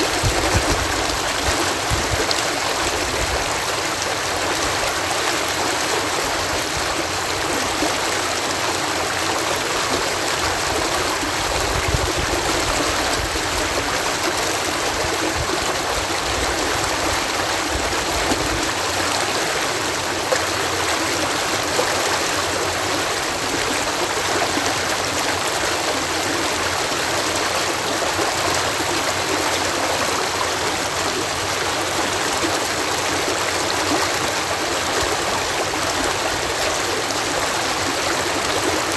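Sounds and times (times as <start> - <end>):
water rushing and splashing: 0.0 - 38.9.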